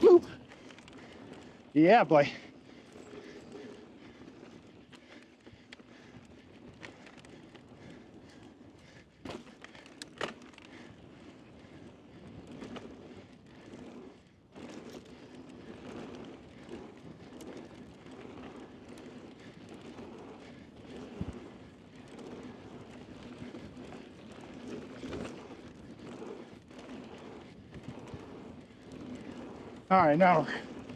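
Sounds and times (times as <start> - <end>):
bike rattles and clicks: 0.0 - 30.9
bike tyres on dirt trail: 0.0 - 30.9.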